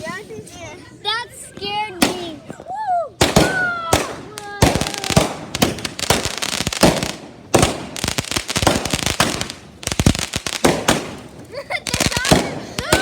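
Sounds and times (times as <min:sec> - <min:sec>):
fireworks bangs and crackles: 0:01.5 - 0:13.0.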